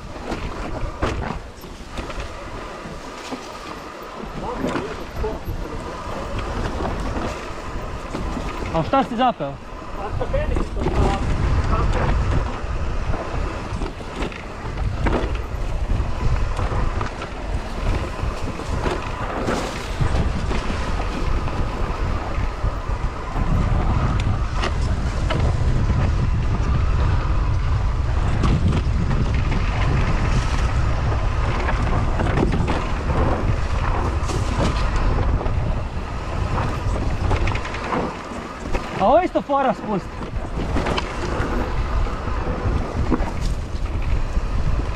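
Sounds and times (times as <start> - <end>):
bike knocks and rattles: 0.0 - 9.0, 10.4 - 44.9
wind rushing over microphone: 0.0 - 44.9.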